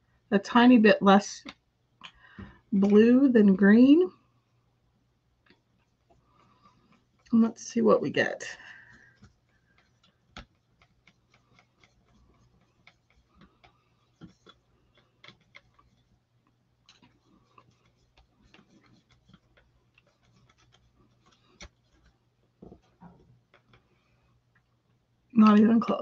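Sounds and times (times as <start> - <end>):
low steady hum: 0.0 - 26.0
stir stick clicking and scraping: 1.2 - 3.9, 5.4 - 26.0.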